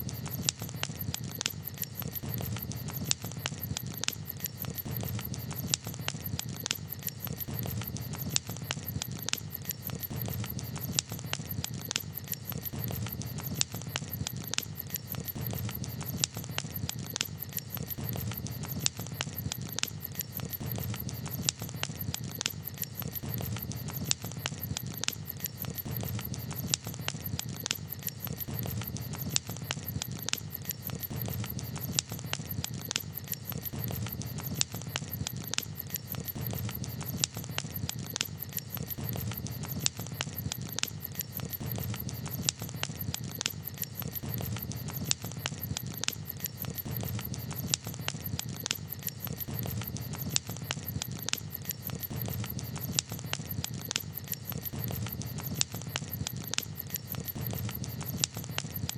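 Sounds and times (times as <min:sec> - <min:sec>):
campfire crackling and popping: 0:00.0 - 0:58.9
low rumble of burning fire: 0:00.0 - 0:58.9.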